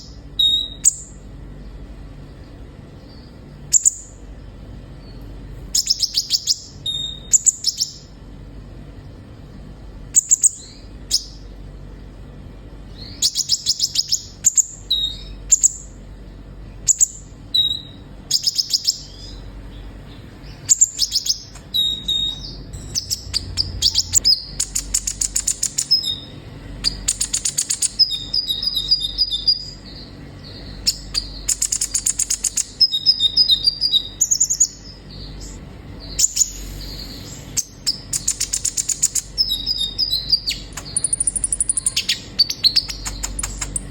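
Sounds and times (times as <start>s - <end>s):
bird twittering trills: 0.0s - 8.2s, 10.1s - 11.5s, 12.8s - 43.9s.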